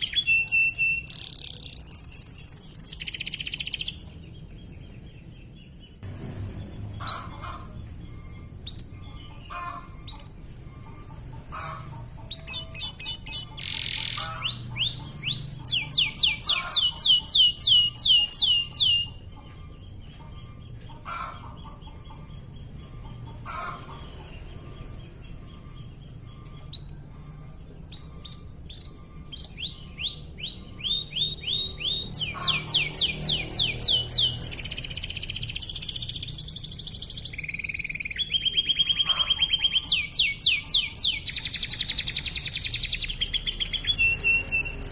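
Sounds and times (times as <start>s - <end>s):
canary singing in rapid trills: 0.0s - 44.9s.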